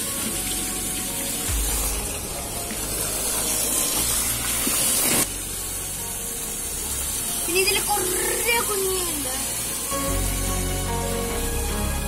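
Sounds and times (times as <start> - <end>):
hose water splashing into tank: 0.0 - 12.0.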